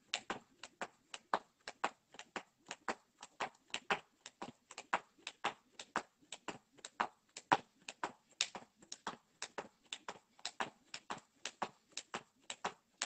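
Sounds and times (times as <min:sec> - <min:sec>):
skipping rope slapping paving: 0:00.0 - 0:13.0.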